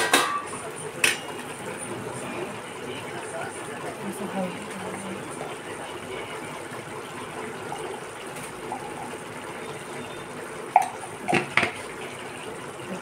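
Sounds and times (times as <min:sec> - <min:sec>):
broth bubbling: 0:00.5 - 0:13.0.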